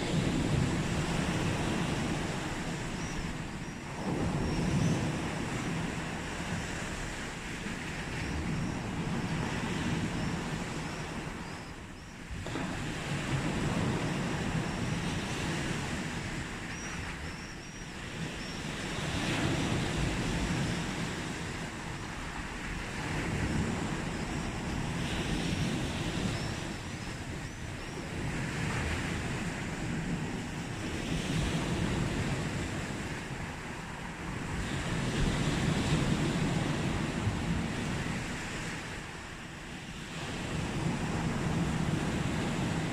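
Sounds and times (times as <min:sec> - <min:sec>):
sea waves breaking on beach: 0:00.0 - 0:42.9.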